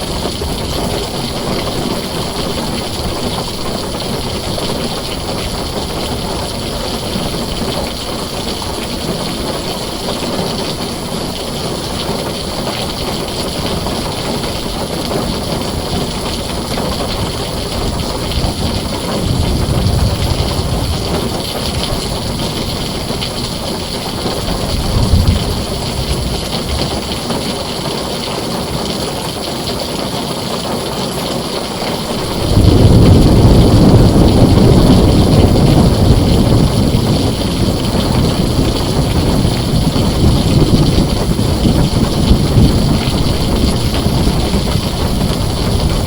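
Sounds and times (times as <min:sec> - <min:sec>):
thunder rumbling: 0:00.0 - 0:28.6, 0:31.6 - 0:46.0
heavy rain on a tin roof: 0:00.0 - 0:46.0.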